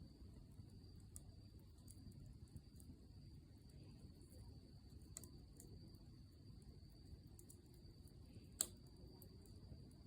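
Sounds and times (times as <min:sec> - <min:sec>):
campfire crackles: 0:00.2 - 0:10.0.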